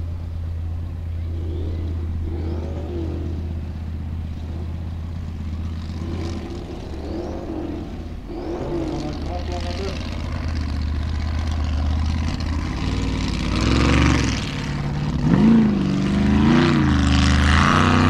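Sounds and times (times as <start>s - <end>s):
buggy engine revving: 0.0s - 18.0s
steady low drone: 0.0s - 18.0s.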